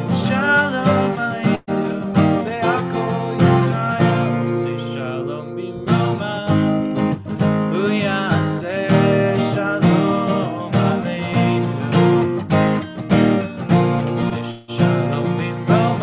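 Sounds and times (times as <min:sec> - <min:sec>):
person singing: 0:00.0 - 0:12.2, 0:14.0 - 0:16.0
strummed acoustic guitar: 0:00.0 - 0:16.0.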